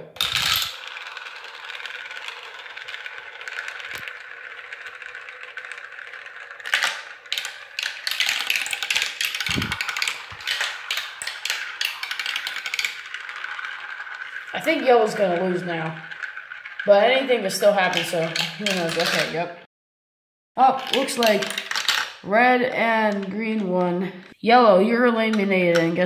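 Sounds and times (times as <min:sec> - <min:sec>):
marbles clattering on track: 0:00.0 - 0:19.6, 0:20.6 - 0:24.2, 0:25.3 - 0:26.0
marbles rolling in plastic tubes: 0:00.0 - 0:19.6, 0:20.6 - 0:26.0.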